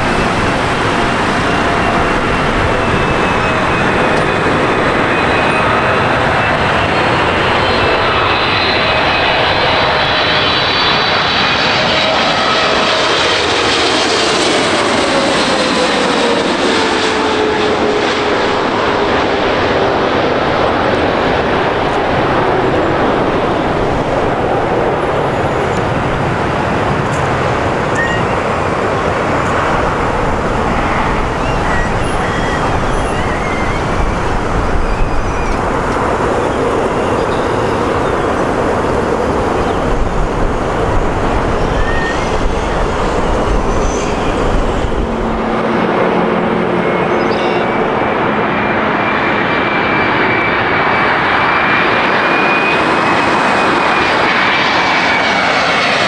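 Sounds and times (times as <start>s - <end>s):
jet engine whine rising in pitch: 0.0s - 56.0s
jet engines rumbling on landing: 0.0s - 56.0s.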